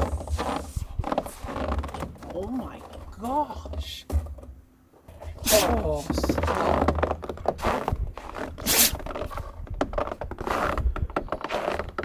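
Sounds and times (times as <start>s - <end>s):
scraping and rustling: 0.0s - 12.0s.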